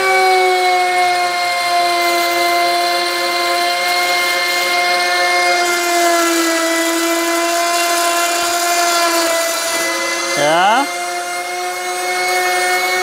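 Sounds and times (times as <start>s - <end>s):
rasp of wood being cut: 0.0s - 13.0s
router motor whine: 0.0s - 13.0s.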